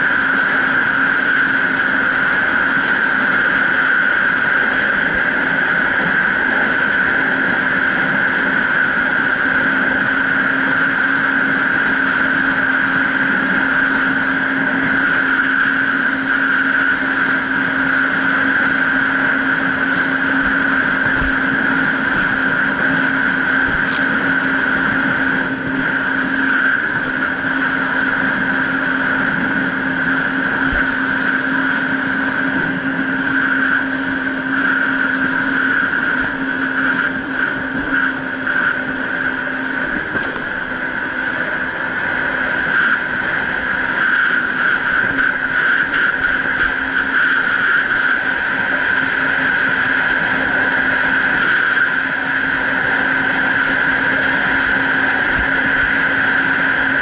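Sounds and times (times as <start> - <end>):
jet ski engine droning: 0.0 - 57.0.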